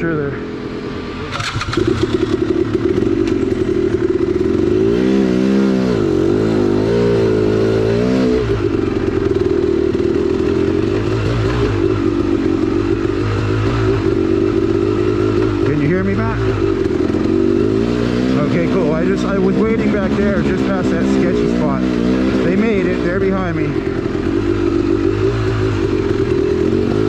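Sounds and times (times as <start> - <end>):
two-stroke dirt bike engine revving: 0.0 - 27.0.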